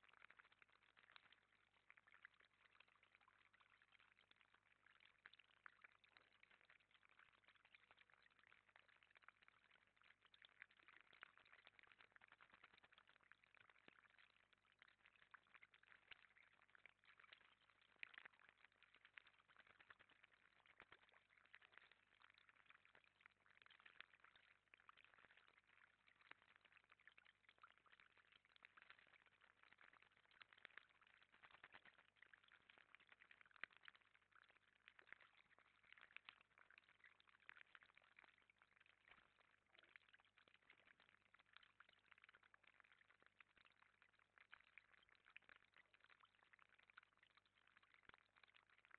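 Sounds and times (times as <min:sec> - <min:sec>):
water trickling in pond: 0:00.0 - 0:48.9.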